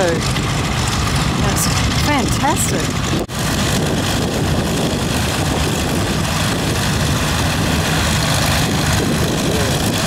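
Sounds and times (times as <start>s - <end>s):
propeller aircraft engine running: 0.0s - 10.0s.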